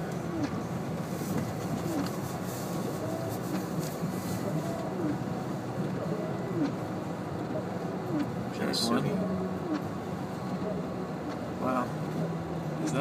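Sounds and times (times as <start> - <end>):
car engine and tyres rumbling in snow: 0.0 - 13.0.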